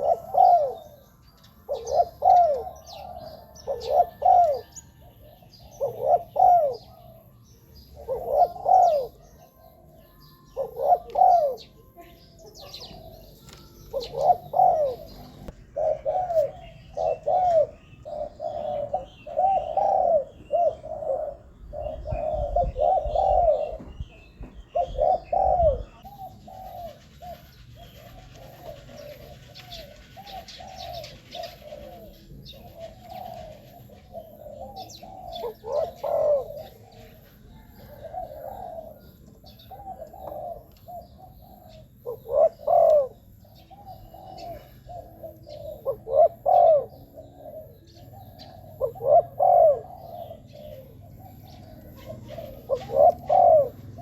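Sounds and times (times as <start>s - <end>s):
dove cooing: 0.0s - 54.0s
small birds chirping: 0.0s - 54.0s.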